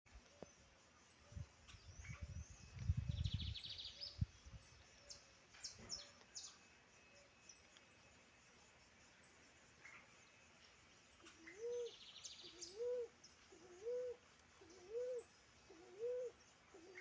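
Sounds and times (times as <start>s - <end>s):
small songbirds chirping: 0.1s - 17.0s.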